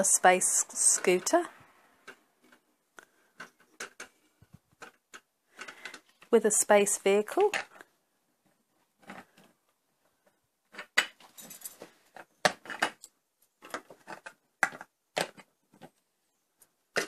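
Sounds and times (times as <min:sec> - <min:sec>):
plastic toys clacking and knocking: 0:00.0 - 0:17.0.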